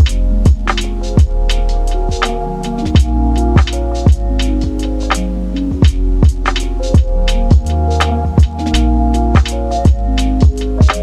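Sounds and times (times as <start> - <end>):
heavy kick drum: 0.0 - 4.8, 5.7 - 8.7, 9.4 - 11.0
deep bass line: 0.0 - 11.0
held pitched synth notes: 0.0 - 11.0.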